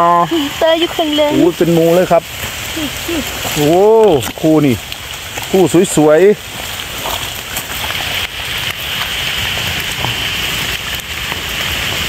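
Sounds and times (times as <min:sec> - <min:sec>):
rain on leaves: 0:00.0 - 0:12.0.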